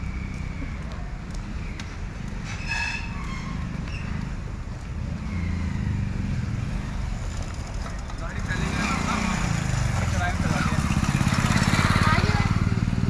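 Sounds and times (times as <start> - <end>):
road traffic rumble: 0.0 - 13.0
vehicle approaching: 0.0 - 13.0.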